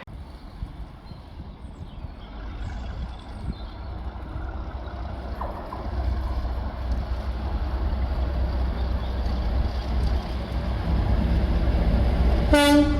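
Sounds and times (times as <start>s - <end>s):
diesel locomotive rumble: 0.0s - 12.9s.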